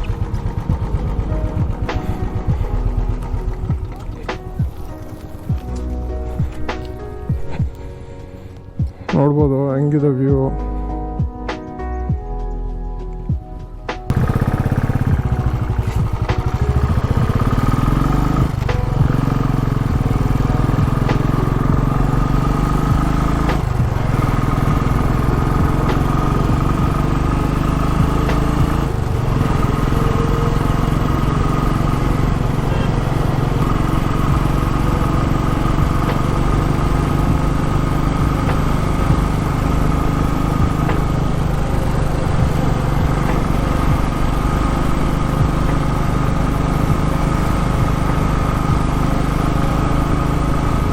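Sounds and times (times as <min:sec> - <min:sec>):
motorcycle engine running: 0:00.0 - 0:07.9, 0:14.1 - 0:50.9.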